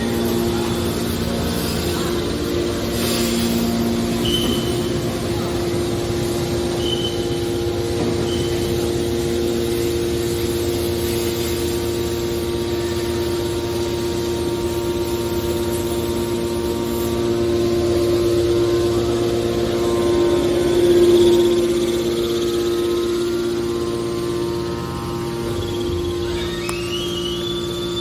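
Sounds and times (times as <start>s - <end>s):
machinery humming: 0.0s - 28.0s.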